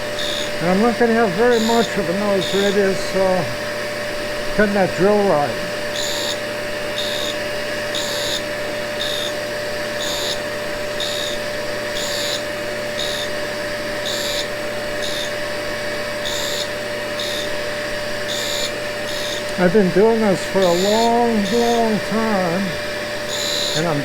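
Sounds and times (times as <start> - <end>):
dust vacuum running: 0.0 - 24.0
grinder grinding tool bit: 0.0 - 24.0.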